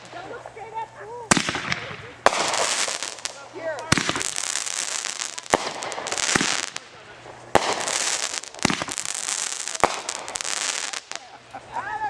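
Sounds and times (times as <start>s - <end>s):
firework bangs: 0.0s - 11.5s
fireworks hissing and crackling: 0.0s - 12.0s.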